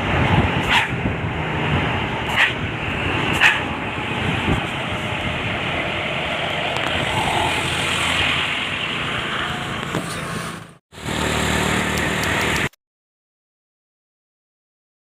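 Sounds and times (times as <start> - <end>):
bus engine and tyre road noise: 0.0 - 12.8.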